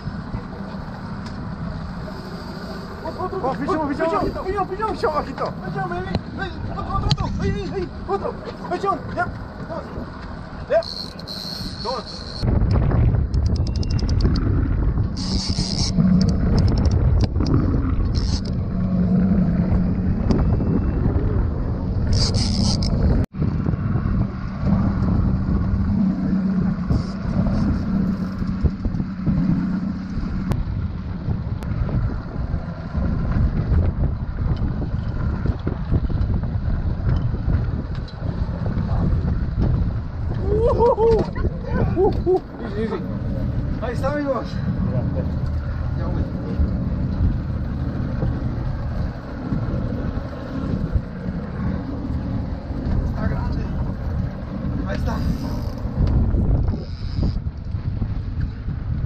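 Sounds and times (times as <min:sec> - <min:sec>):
low rumble: 0:00.0 - 0:59.0
outboard motor running: 0:00.0 - 0:59.0
wind buffeting microphone: 0:00.0 - 0:59.0.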